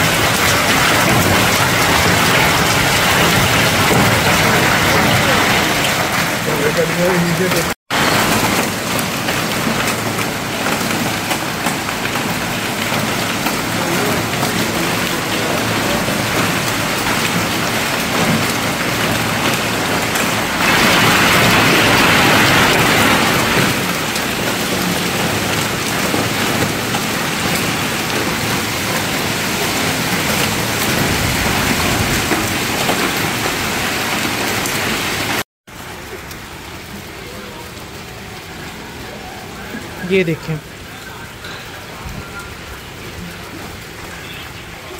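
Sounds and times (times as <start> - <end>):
hail pelting walls and roofs: 0.0 - 44.9.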